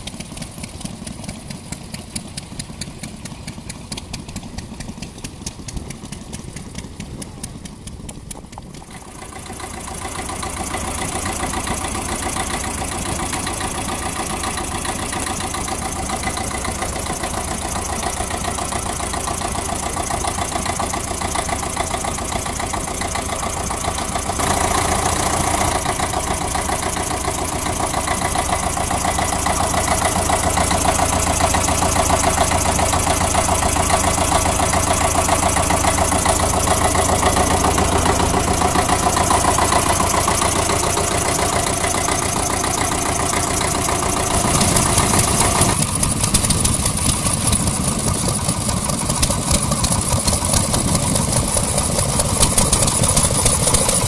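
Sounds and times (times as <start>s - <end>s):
diesel generator running: 0.0s - 54.0s.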